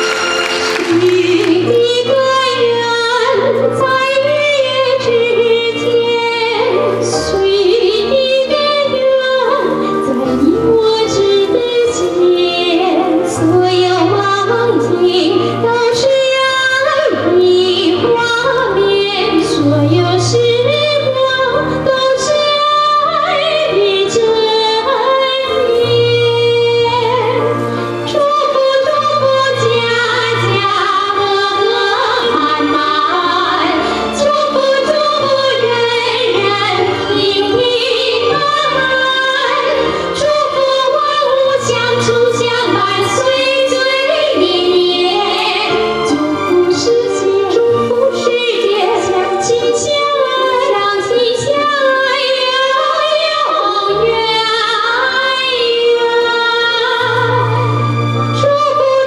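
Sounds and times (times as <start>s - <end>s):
instrumental accompaniment: 0.0s - 59.0s
two women singing a duet: 0.8s - 59.0s.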